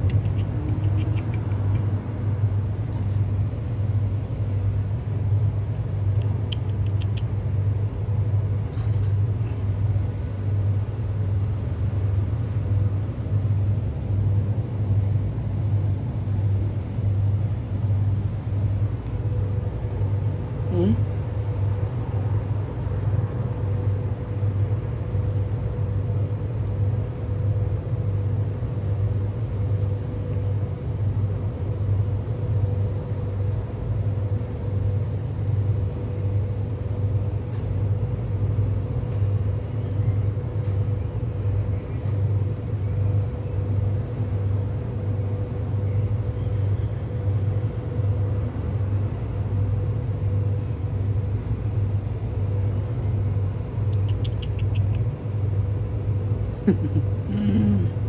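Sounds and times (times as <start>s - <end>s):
faint steady whine: 0.0s - 58.0s
pulsing low mechanical rumble: 0.0s - 58.0s.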